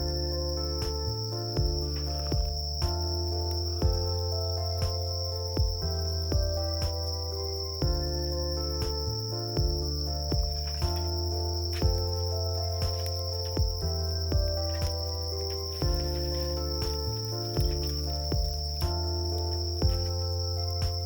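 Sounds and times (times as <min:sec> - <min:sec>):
crickets trilling: 0:00.0 - 0:21.0
low sustained music notes: 0:00.0 - 0:21.0.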